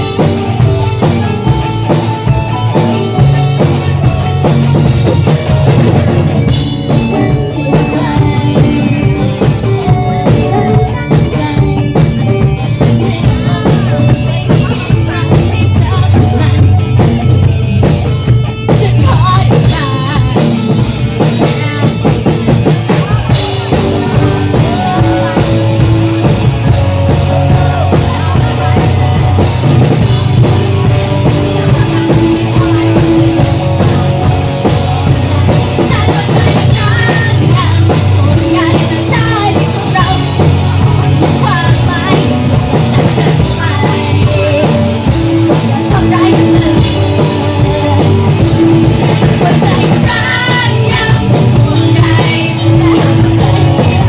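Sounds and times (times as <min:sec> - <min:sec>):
drum kit: 0:00.0 - 0:54.0
guitar: 0:00.0 - 0:54.0
live rock band playing: 0:00.0 - 0:54.0.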